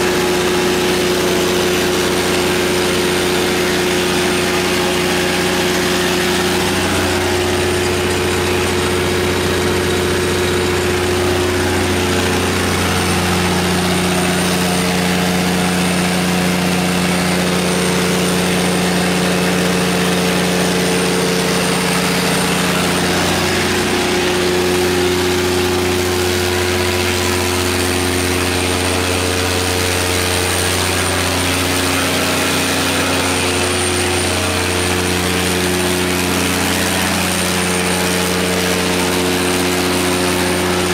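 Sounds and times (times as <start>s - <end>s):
diesel generator running: 0.0s - 40.9s.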